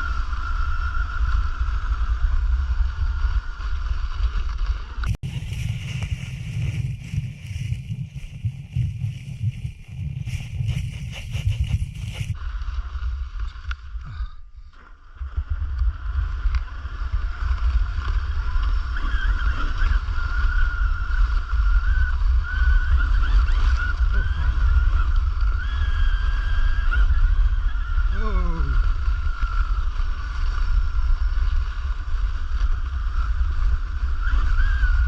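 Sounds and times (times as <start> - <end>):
constant low rumble: 0.0 - 35.0.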